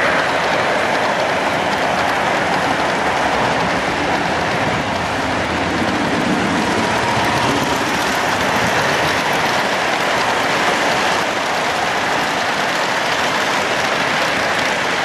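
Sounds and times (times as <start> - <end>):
model trains running on metal track: 0.0 - 15.0.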